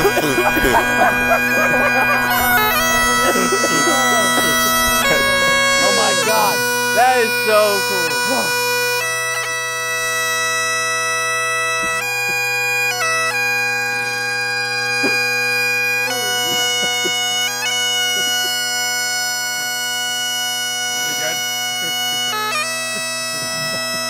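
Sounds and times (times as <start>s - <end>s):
bagpipes playing slow tune: 0.0s - 24.0s.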